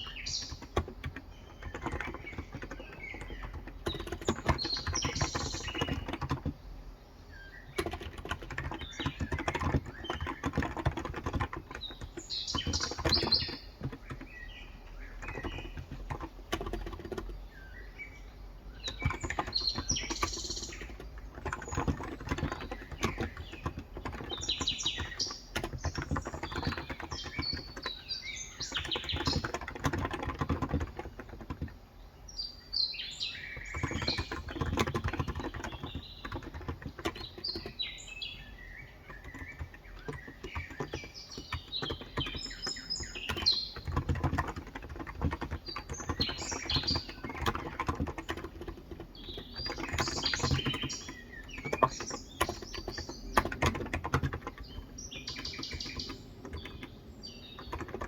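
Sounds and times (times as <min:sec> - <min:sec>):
keyboard typing clicks: 0:00.0 - 0:06.6, 0:07.6 - 0:17.4, 0:18.7 - 0:31.8, 0:33.4 - 0:58.0
birds chirping: 0:00.0 - 0:58.0.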